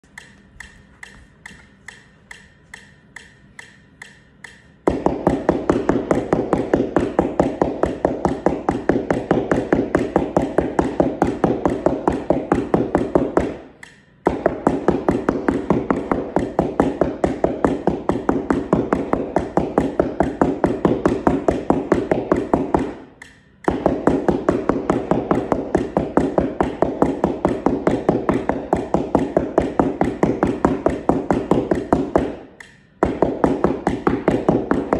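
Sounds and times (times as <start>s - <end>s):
steady metronome click: 0.0s - 7.1s, 7.8s - 34.9s
mallets striking cardboard mat: 0.0s - 34.9s.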